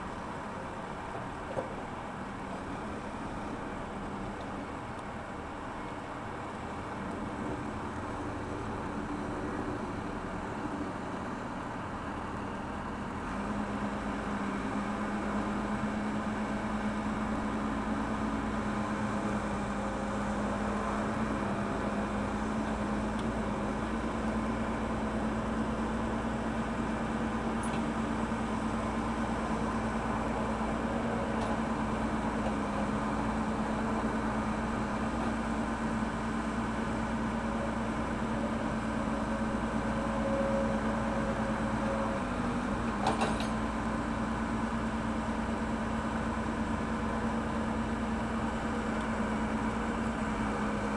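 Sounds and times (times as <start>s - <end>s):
diesel engine running under load: 0.0s - 50.9s.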